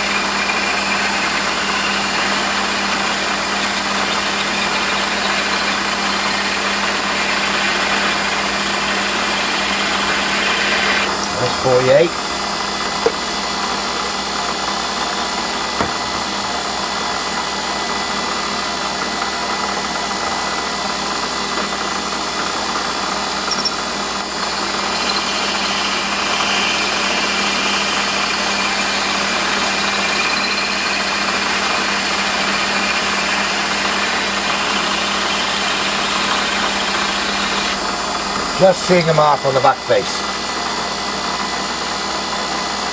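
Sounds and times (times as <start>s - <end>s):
drill cutting metal: 0.0s - 16.4s, 21.6s - 42.8s
metal lathe humming: 0.0s - 41.6s.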